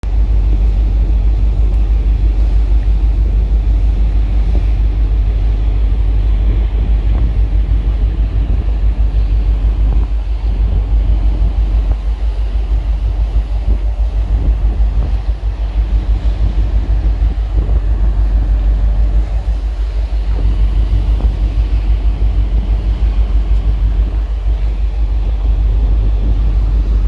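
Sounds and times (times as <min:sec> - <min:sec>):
engine rumble with pulsing throb: 0:00.0 - 0:27.0.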